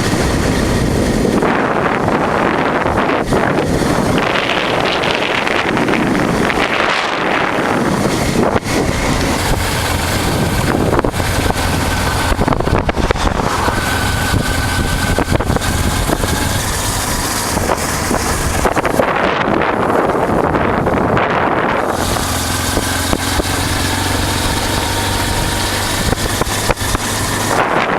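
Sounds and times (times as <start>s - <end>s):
motorcycle engine running: 0.0s - 27.9s
wind rushing over microphone: 0.0s - 27.9s.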